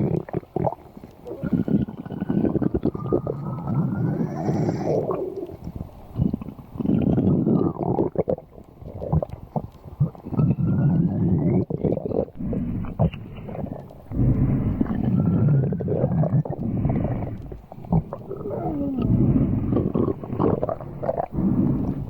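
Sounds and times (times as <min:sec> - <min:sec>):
stomach growling: 0:00.0 - 0:22.0.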